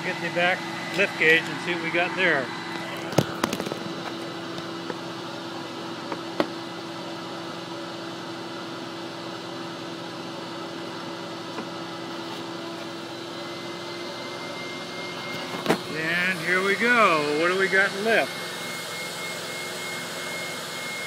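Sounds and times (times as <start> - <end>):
vacuum motors humming: 0.0 - 21.0.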